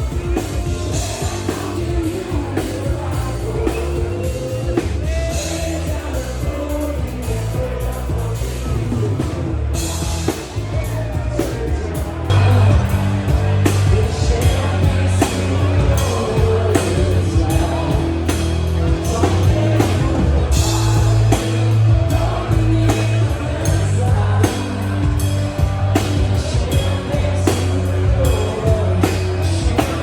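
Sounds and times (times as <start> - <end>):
rock music with singing: 0.0 - 30.0
steady drum beat: 0.0 - 30.0.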